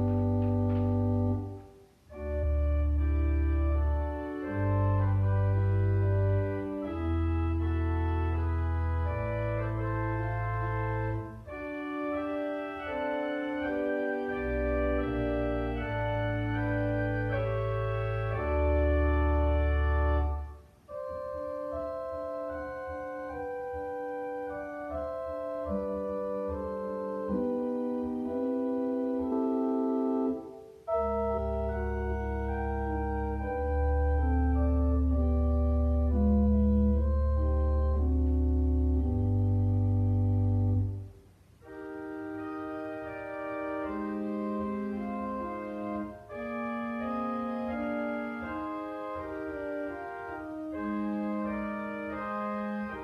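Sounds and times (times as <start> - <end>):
organ playing slow chords: 0.0 - 53.0.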